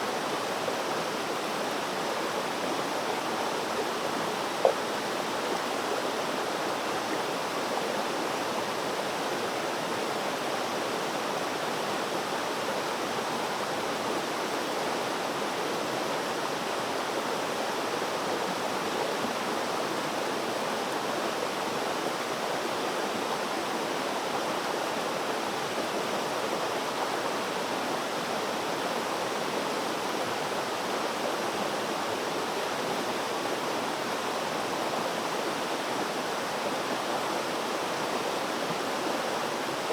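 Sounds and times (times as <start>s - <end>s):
flowing water rushing: 0.2s - 39.9s.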